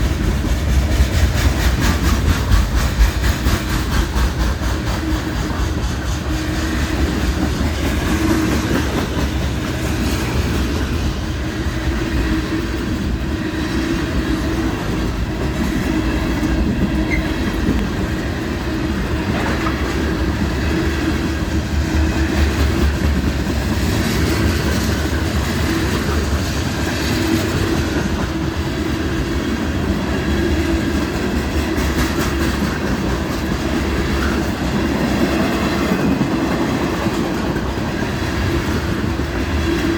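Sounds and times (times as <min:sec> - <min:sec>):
wheels clacking over rail joints: 0:00.0 - 0:13.3, 0:14.0 - 0:39.9
train rumbling past: 0:00.0 - 0:39.9.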